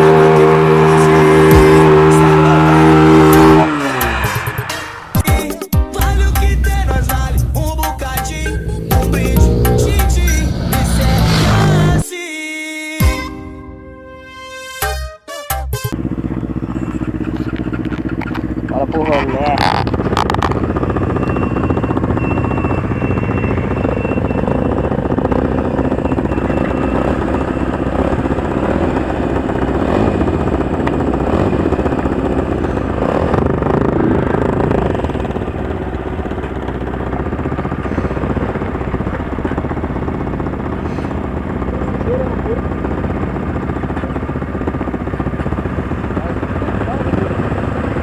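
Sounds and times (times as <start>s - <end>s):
motorcycle engines running: 0.0s - 12.0s, 15.9s - 48.0s.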